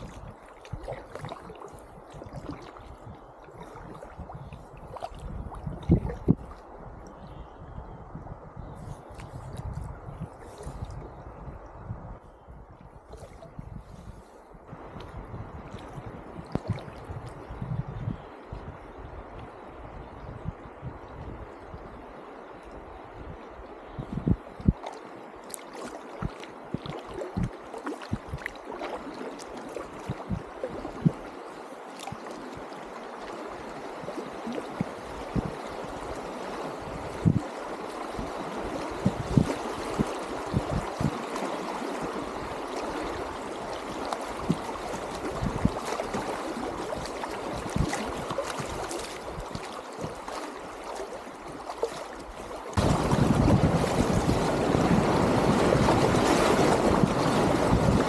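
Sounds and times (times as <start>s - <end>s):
river water rushing and gurgling: 0.0s - 7.3s, 14.7s - 58.0s.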